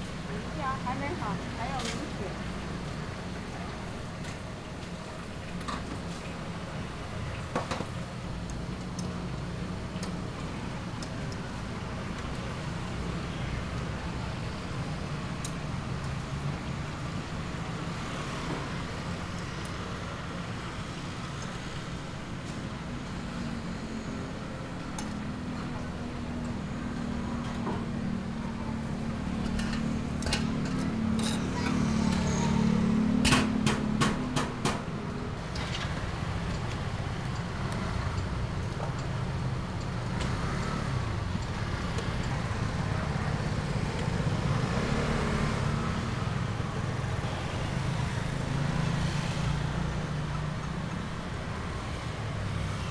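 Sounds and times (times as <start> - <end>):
street traffic rumble: 0.0 - 52.9.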